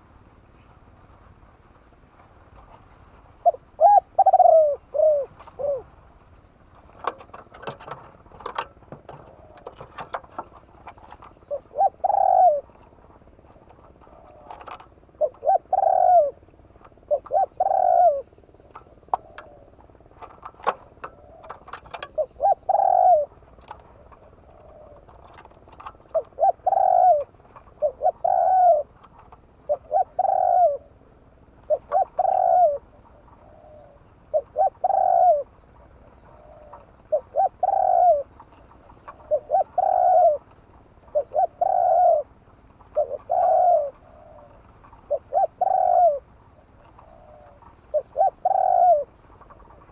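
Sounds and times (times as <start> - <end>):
dove cooing: 3.4 - 49.9.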